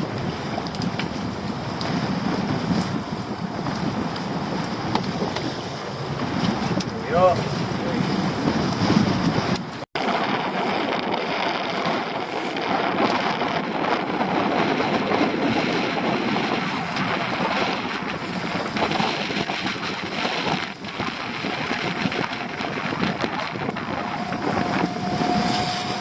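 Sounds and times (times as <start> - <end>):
wind rushing on microphone: 0.0 - 26.0.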